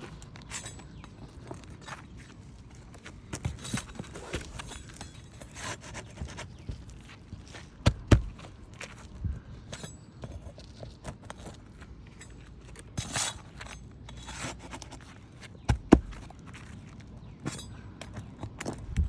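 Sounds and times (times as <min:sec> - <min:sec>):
tools scraping roof shingles: 0:00.0 - 0:18.8.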